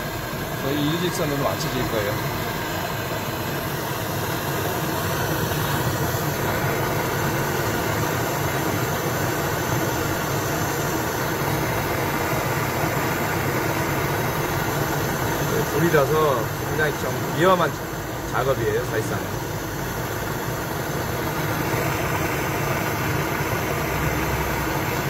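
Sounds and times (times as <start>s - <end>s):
gas torches hissing: 0.0s - 25.0s.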